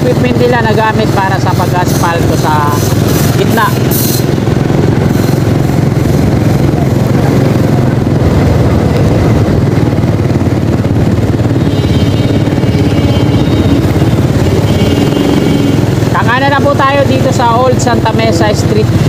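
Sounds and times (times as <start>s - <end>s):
motor scooter engine running: 0.0s - 19.0s.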